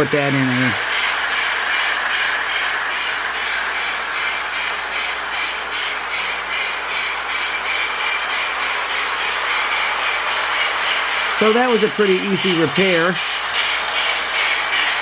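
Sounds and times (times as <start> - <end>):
model train motor and wheels: 0.0 - 15.0
rhythmic hissing steam chuff: 0.0 - 15.0.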